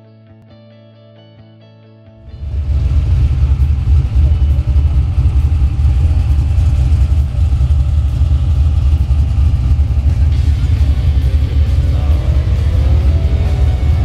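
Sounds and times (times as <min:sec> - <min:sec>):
race car engines rumbling: 0:02.3 - 0:14.0.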